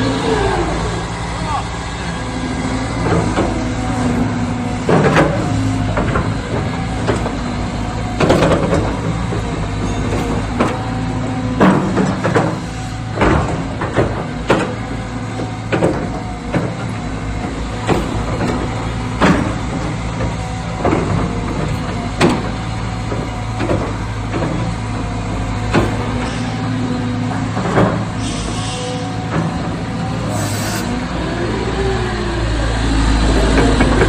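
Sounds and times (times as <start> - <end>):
diesel excavator engine running: 0.0 - 34.0.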